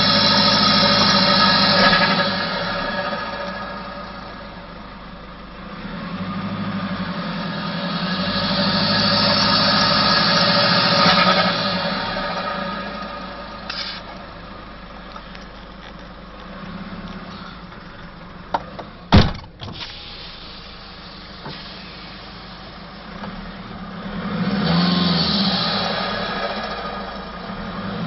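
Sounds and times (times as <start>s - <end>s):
engine revving and idling: 0.0s - 18.5s, 20.0s - 28.0s.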